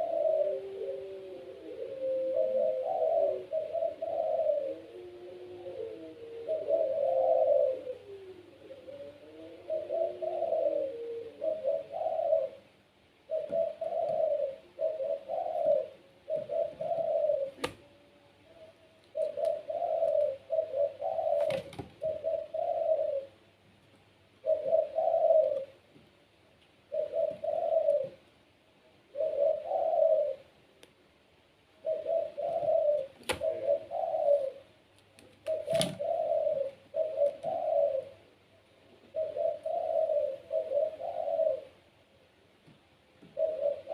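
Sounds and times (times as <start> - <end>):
dove cooing: 0.0 - 23.6, 24.3 - 26.1, 26.8 - 30.7, 31.7 - 43.9.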